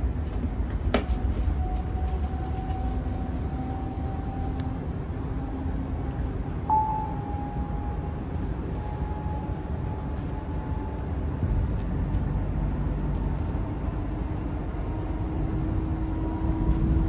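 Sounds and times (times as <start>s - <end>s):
lower whine: 0.0s - 17.0s
train cabin low rumble: 0.0s - 17.0s.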